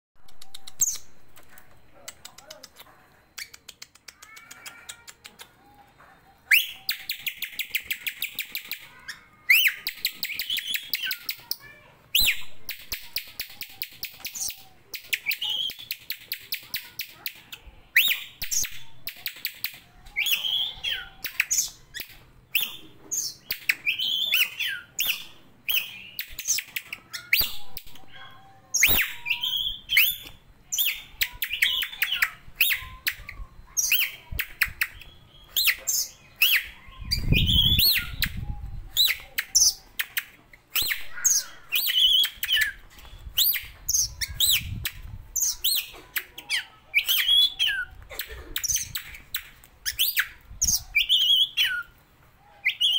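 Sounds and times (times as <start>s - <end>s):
songbird singing whistles and ticks: 0.2s - 1.2s, 3.4s - 8.9s, 9.5s - 11.6s, 12.2s - 28.1s, 28.8s - 41.1s, 41.7s - 46.4s, 48.6s - 51.9s.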